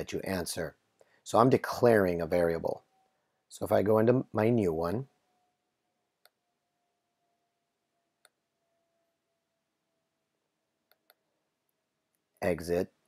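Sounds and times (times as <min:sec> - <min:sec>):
very faint hum: 0:00.0 - 0:13.0.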